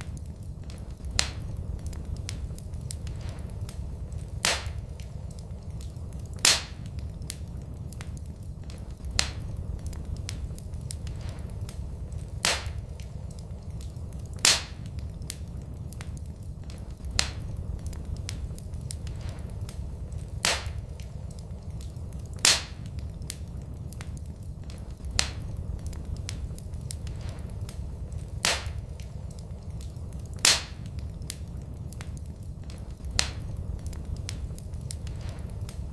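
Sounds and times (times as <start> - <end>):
low fire rumble: 0.0 - 35.9
wood fire crackling: 0.0 - 35.9.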